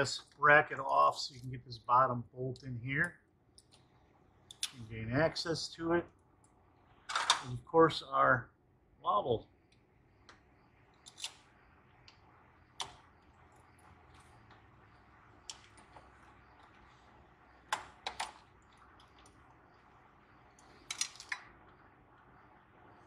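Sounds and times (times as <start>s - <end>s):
low hiss: 0.0s - 23.0s.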